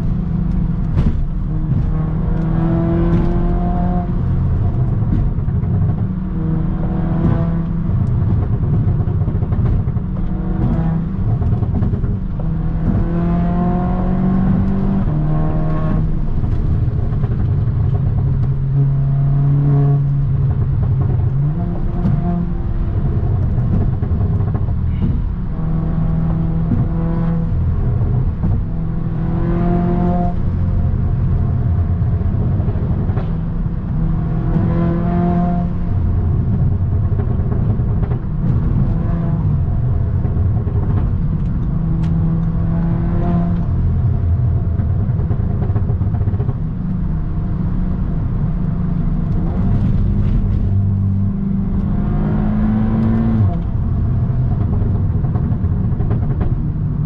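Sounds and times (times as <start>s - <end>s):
exhaust pops: 0.0s - 52.2s, 52.9s - 57.0s
car engine accelerating: 0.0s - 57.0s.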